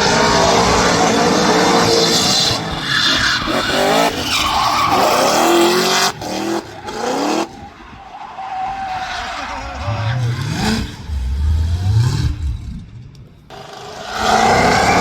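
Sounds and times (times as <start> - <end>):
tyres skidding and squealing: 0.0 - 12.4, 13.5 - 15.0.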